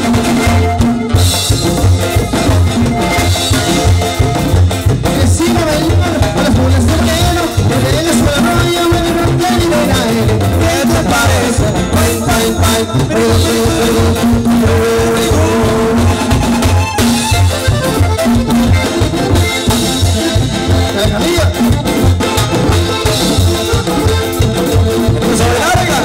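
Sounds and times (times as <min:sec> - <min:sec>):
accordion melody: 0:00.0 - 0:26.0
congas: 0:00.0 - 0:26.0
drum kit: 0:00.0 - 0:26.0
guitar: 0:00.0 - 0:26.0
sousaphone bass line: 0:00.0 - 0:26.0.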